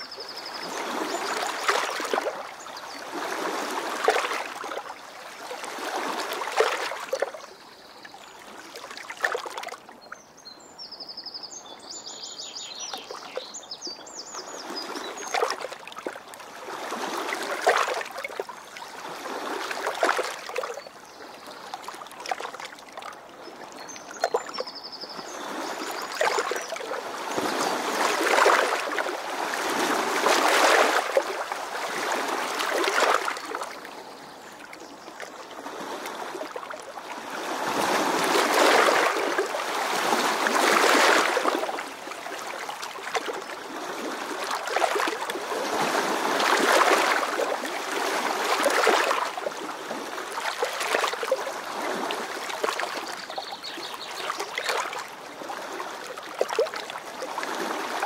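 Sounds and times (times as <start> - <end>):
river water lapping: 0.0 - 58.0.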